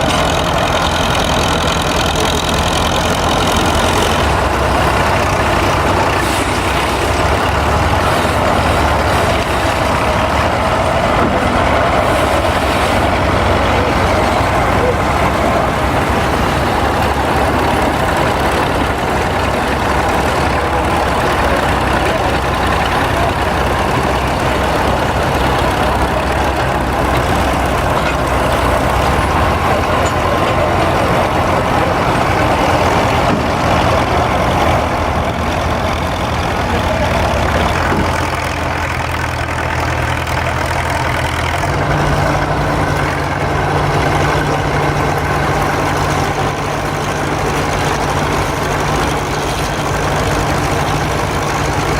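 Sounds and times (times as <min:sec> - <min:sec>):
heavy machine engine running: 0:00.0 - 0:51.9.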